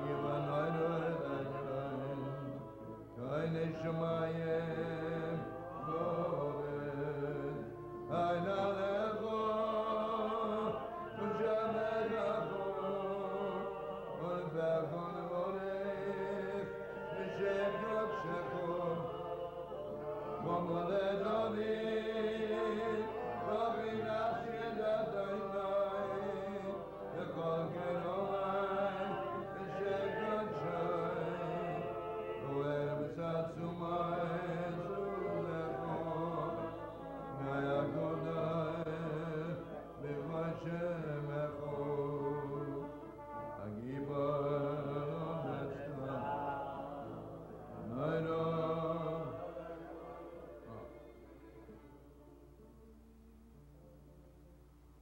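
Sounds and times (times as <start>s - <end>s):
man singing into a microphone: 0.0s - 51.9s.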